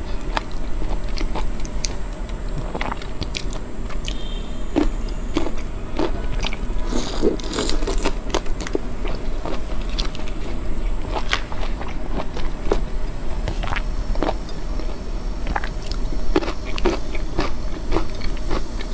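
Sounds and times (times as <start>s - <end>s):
wet chewing: 0.0s - 18.9s
prawn shell crunching: 0.1s - 18.9s.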